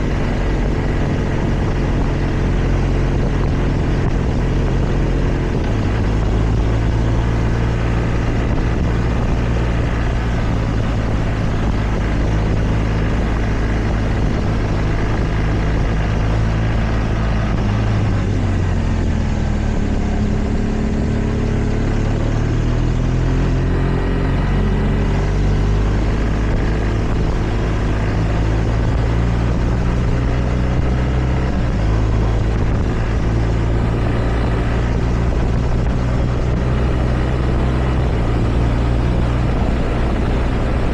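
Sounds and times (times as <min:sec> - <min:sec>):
constant rushing noise: 0:00.0 - 0:40.9
motorcycle engine running: 0:00.0 - 0:40.9.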